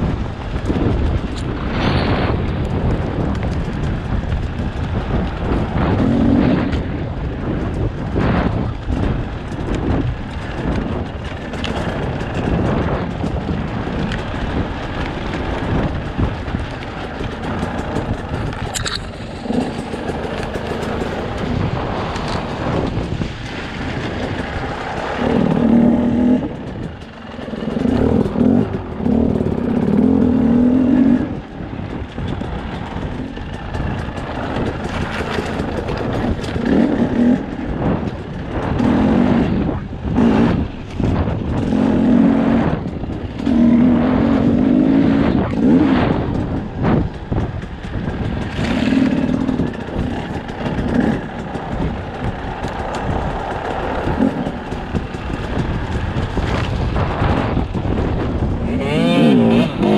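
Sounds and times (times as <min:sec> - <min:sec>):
motorcycle engine: 0:00.0 - 0:59.9
rough road noise: 0:00.0 - 0:59.9.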